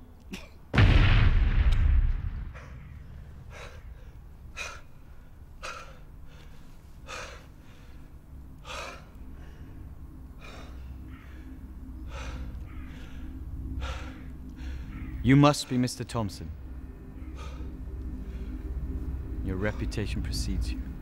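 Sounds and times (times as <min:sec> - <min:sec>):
steady low rumble: 0:00.7 - 0:21.0.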